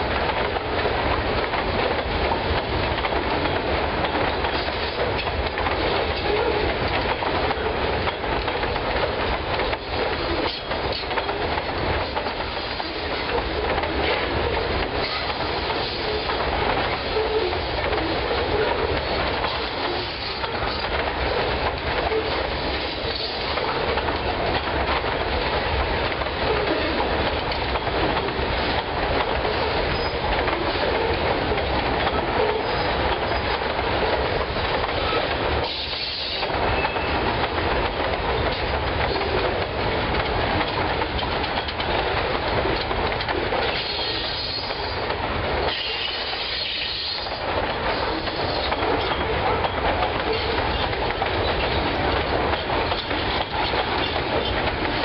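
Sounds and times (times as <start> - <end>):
train wheels clattering over rail: 0.0 - 55.0.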